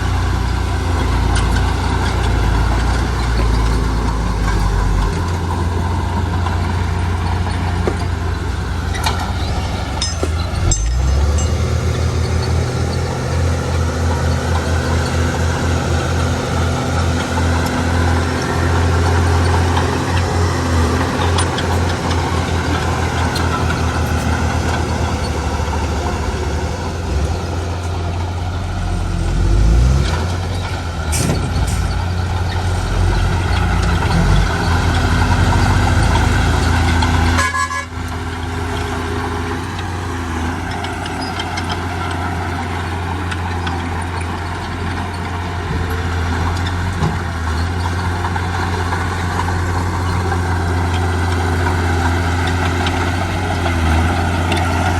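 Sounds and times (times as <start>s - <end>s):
heavy machinery diesel engines: 0.0s - 54.9s.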